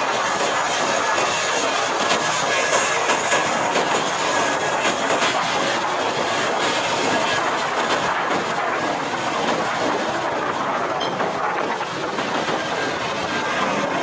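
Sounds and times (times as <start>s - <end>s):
jet engines at takeoff power: 0.0s - 14.0s.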